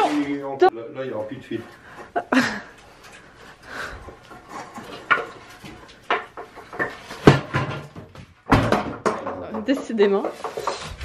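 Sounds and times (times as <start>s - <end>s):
wood scraping and creaking: 0.0s - 11.0s.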